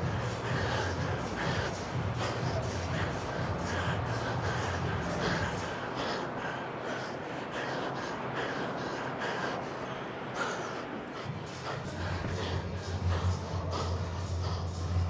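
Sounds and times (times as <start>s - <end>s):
man panting hard: 0.0s - 15.0s.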